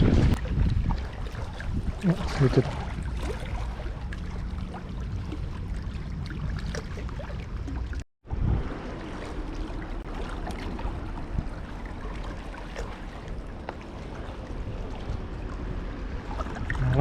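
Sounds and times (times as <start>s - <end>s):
water at the shore: 0.0s - 17.0s.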